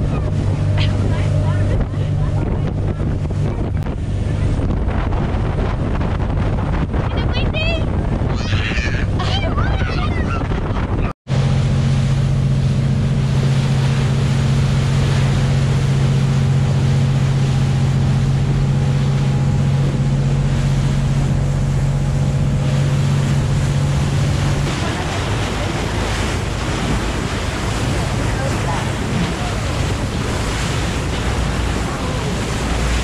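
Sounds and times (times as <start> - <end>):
boat engines droning: 0.0 - 33.0
water rushing along hull: 0.0 - 33.0
wind on microphone: 0.0 - 33.0.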